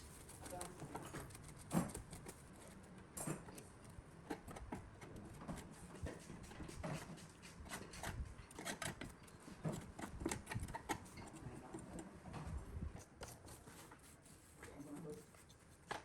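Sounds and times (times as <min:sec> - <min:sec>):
light clicks and taps of tools: 0:00.4 - 0:14.0.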